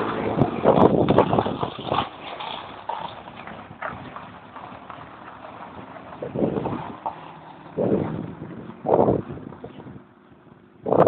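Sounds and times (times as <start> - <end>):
car knocks and rattles: 0.0 - 10.1
car engine hum: 0.0 - 11.0.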